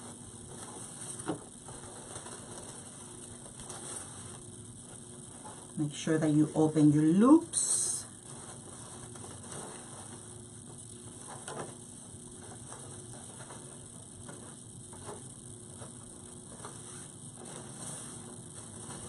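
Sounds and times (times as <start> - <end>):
faint steady hum: 0.0 - 19.0
ribbon rustling: 0.0 - 19.0.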